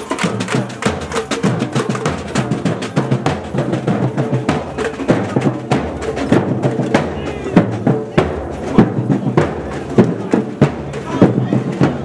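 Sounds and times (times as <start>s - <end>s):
marching drum band: 0.0s - 12.0s.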